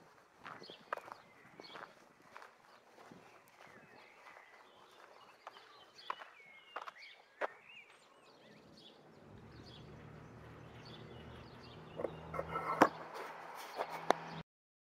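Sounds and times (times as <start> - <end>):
bird chirps: 0.5 - 14.4.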